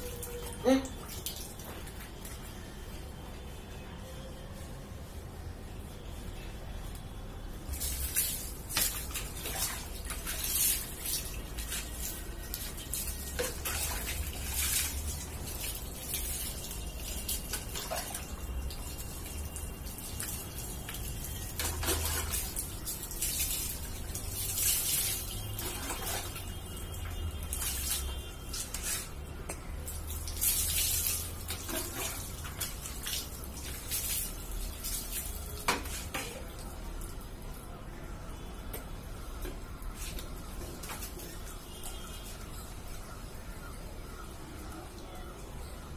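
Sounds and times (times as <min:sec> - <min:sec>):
water splashing and dripping: 0:00.0 - 0:03.0, 0:06.9 - 0:45.9.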